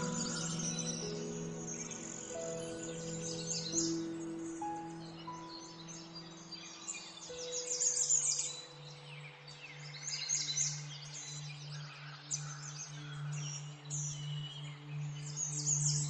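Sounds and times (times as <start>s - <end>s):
low held musical tones: 0.0s - 16.0s.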